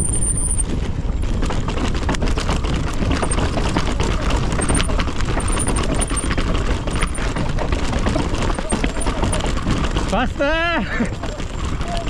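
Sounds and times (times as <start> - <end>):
bike rattling over stones: 0.0 - 12.0.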